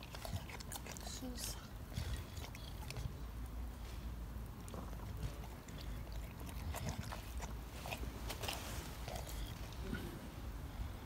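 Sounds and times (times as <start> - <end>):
dog licking and smacking lips: 0.0 - 9.9.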